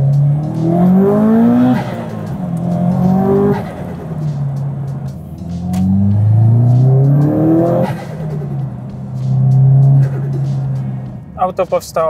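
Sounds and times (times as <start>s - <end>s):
car engine revving through upshifts: 0.0s - 11.4s.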